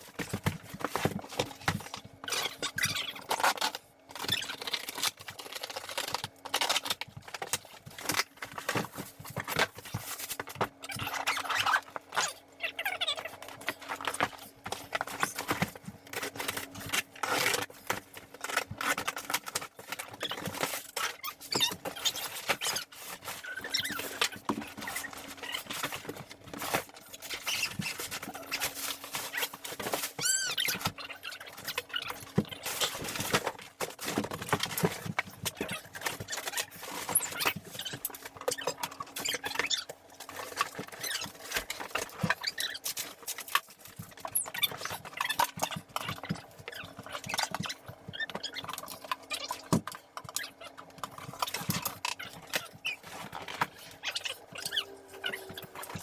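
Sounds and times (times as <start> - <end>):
packaging rustling and crinkling: 0.0 - 56.0.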